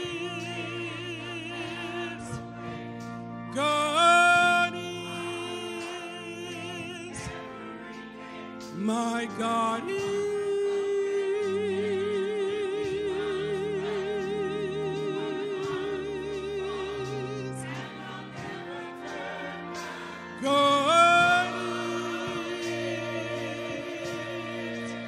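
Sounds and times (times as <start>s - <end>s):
church organ chords: 0.0s - 25.0s
gospel choir singing: 0.0s - 25.0s.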